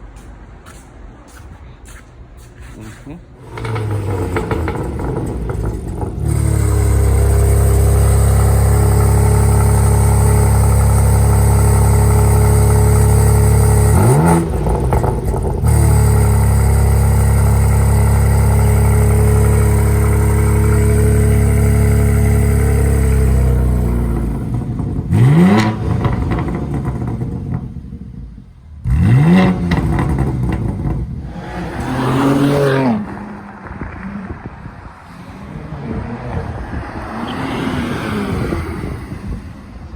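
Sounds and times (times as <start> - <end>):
car engine revving: 3.4 - 39.9.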